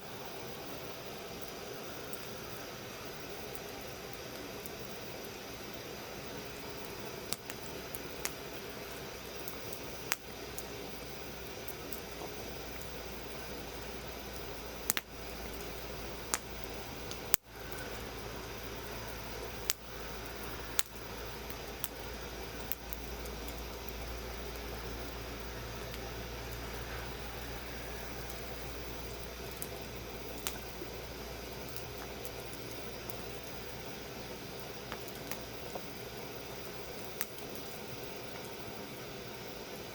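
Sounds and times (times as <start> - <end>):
campfire hissing: 0.0 - 39.9
wood fire crackling: 0.0 - 39.9.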